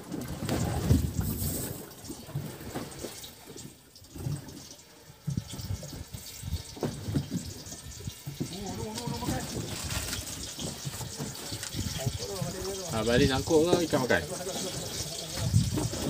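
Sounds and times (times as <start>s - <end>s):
water sloshing against boat hull: 0.0s - 16.0s.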